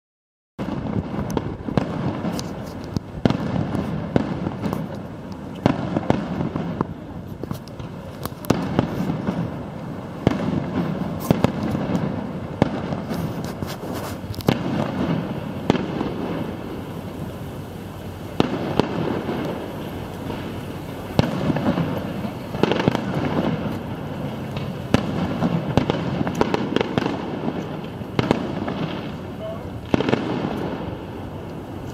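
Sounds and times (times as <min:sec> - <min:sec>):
fireworks bursting: 0:00.6 - 0:31.9.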